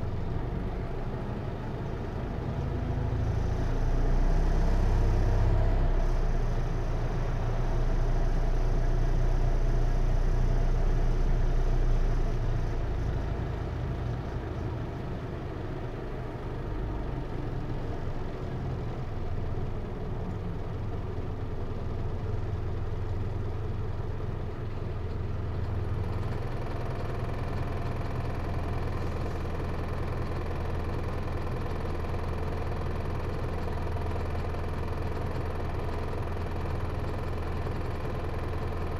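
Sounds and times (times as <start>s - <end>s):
diesel engine hum inside bus: 0.0s - 38.9s.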